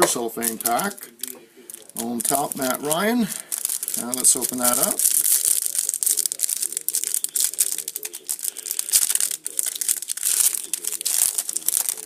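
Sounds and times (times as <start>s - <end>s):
cellophane tearing and crackling: 0.4s - 12.0s.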